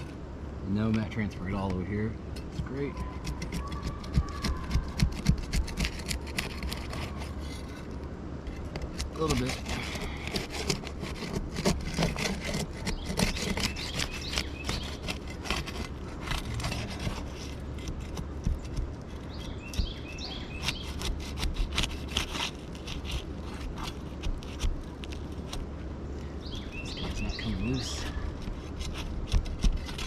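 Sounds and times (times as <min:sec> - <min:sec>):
roof shingle scraping and crackling: 0:02.6 - 0:25.9, 0:26.5 - 0:30.0.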